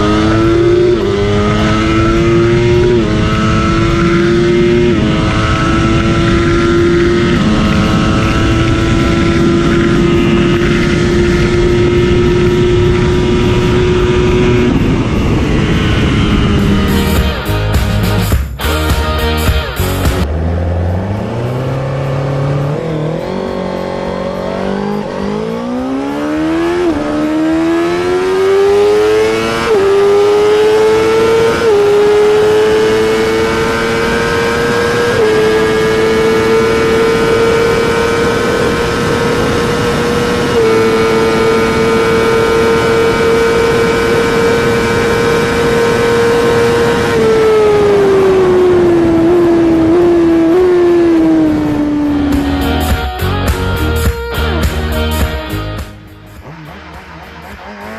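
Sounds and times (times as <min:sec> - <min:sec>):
motorcycle engine accelerating hard: 0:00.0 - 0:57.9.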